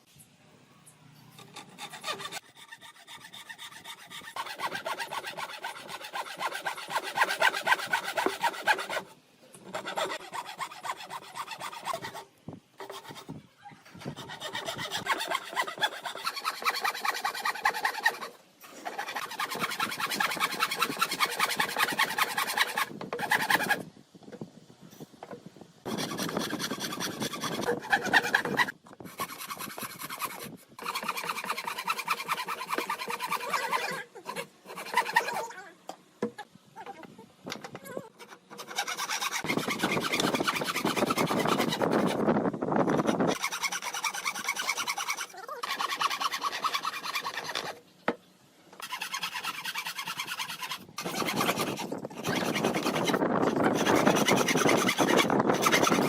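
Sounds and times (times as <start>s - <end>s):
tool scraping wood: 1.3s - 23.8s, 25.2s - 35.6s, 36.2s - 42.2s, 42.9s - 47.8s, 48.8s - 56.0s.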